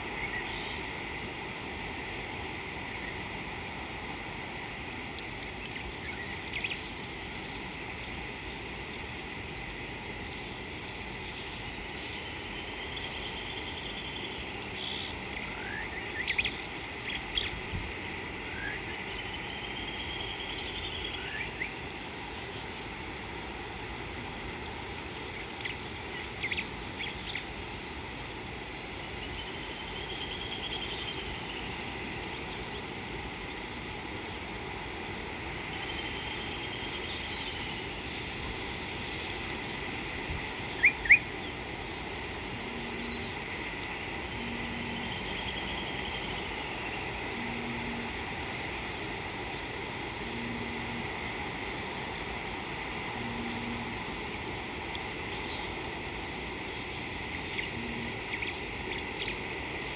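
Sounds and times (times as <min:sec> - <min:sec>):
high insect hum: 0:00.0 - 0:59.9.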